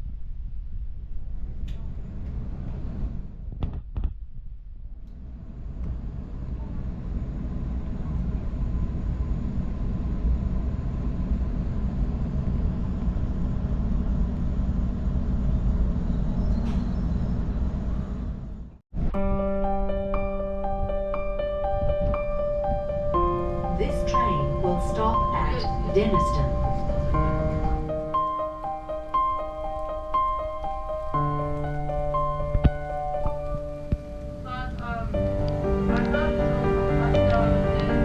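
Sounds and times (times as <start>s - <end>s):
train rumbling: 0.0s - 3.5s, 5.0s - 18.8s, 20.6s - 38.0s.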